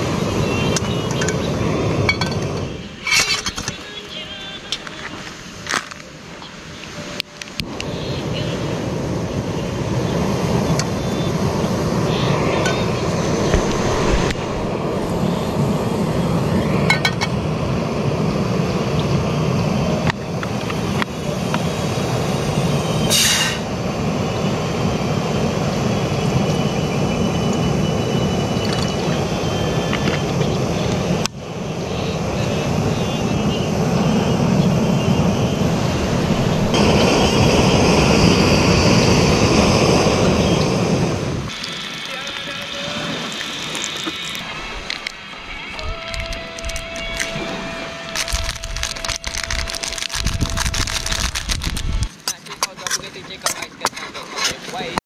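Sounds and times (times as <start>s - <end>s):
gas stove burner roaring: 0.0s - 3.7s, 7.6s - 52.7s.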